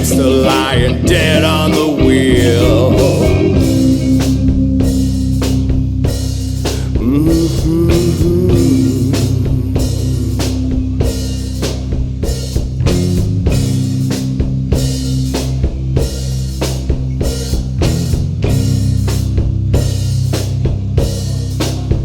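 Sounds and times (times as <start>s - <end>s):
drum kit steady beat: 0.0s - 22.0s
held guitar and bass notes: 0.0s - 22.0s.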